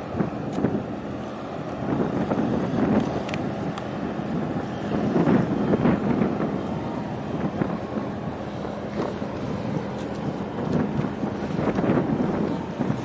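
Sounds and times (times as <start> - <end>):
low engine drone: 0.0 - 13.0
wash of harbour water: 0.0 - 13.0
wind buffeting microphone: 0.0 - 13.0.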